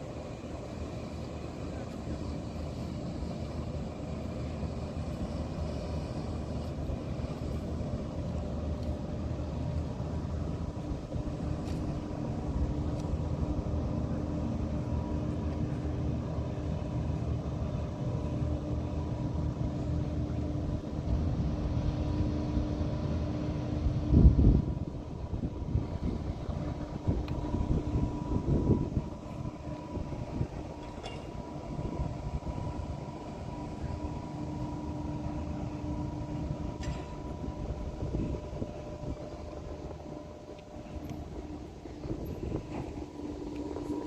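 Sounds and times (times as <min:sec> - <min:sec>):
faint steady hum: 0:00.0 - 0:44.0
vehicle engine rumble: 0:00.0 - 0:44.0.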